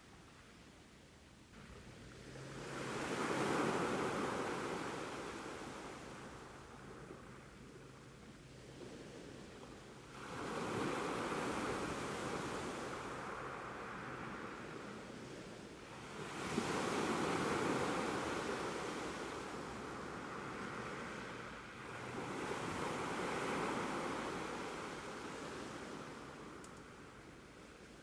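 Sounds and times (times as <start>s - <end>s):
ocean waves breaking: 2.0s - 7.5s, 9.3s - 27.2s.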